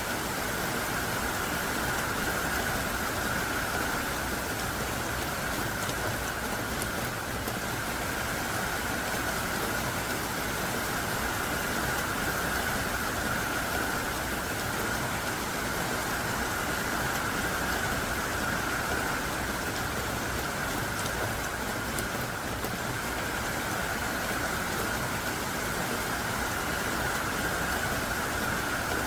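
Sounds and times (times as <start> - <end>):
heavy rain downpour: 0.0 - 29.0.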